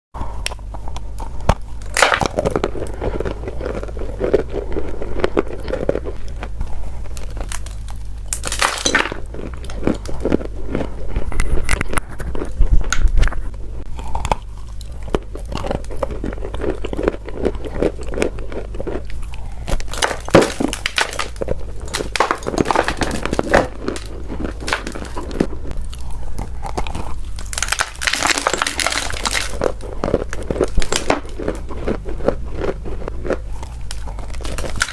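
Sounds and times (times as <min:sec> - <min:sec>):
steady low hum: 0:00.2 - 0:34.9.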